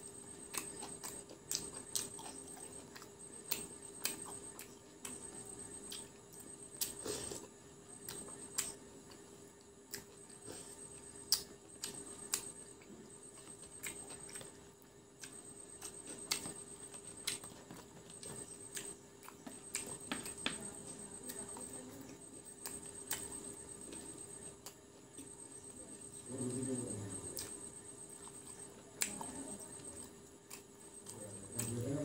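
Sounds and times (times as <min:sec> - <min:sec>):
chewing with crunches: 0:00.0 - 0:32.0
faint steady hum: 0:00.0 - 0:32.0.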